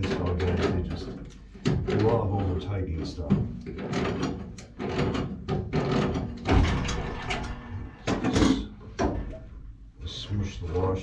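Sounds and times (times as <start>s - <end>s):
knocks and clatter of tools: 0.0s - 9.6s.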